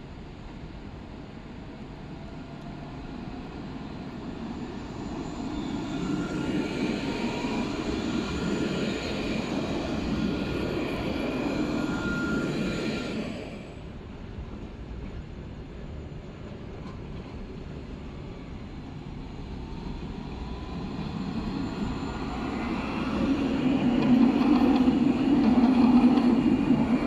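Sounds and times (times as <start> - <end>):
tram wheels rumbling on rail: 0.0 - 27.0.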